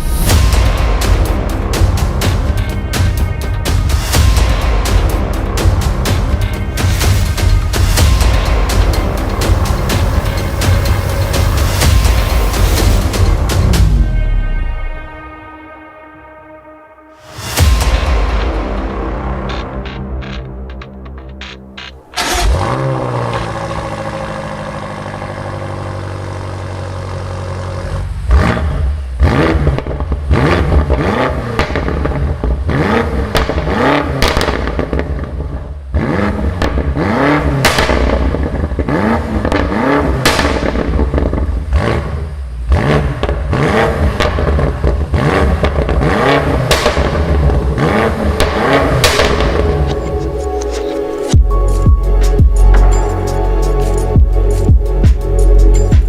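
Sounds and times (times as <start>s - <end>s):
car engine idling and revving: 0.0s - 15.0s, 17.2s - 56.0s.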